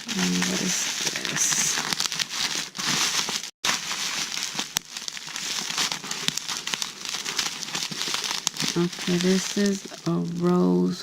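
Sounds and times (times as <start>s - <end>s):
packaging crinkling: 0.0s - 10.7s.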